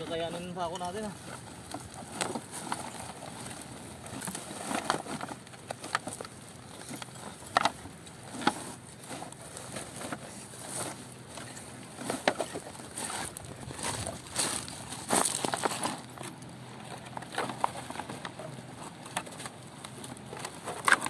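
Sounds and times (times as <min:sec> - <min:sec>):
plastic crinkling and rustling: 0:00.0 - 0:21.0.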